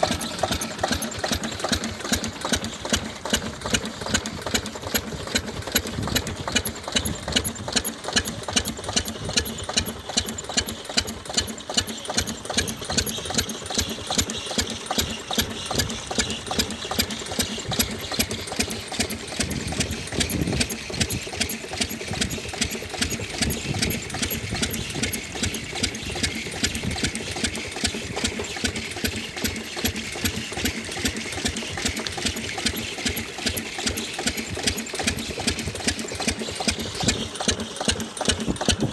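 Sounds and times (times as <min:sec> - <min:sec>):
diesel pump engine running: 0:00.0 - 0:38.9.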